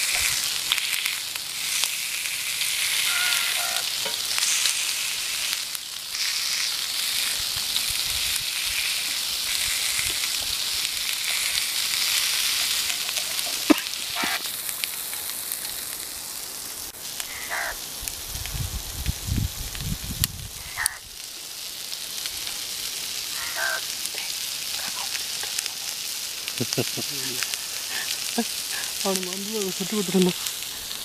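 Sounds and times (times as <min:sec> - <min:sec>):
fish sizzling in oil: 0:00.0 - 0:31.0.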